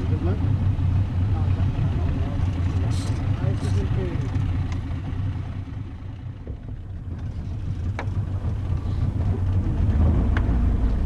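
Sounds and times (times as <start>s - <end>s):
boat motor low rumble: 0.0s - 11.0s.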